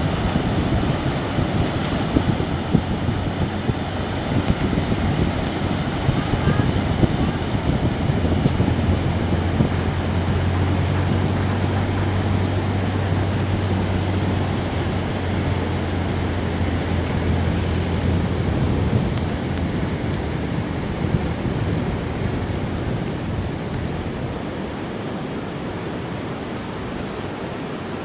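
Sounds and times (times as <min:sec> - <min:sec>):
sea surf washing onto beach: 0:00.0 - 0:28.0
wind rumble on microphone: 0:00.0 - 0:28.0.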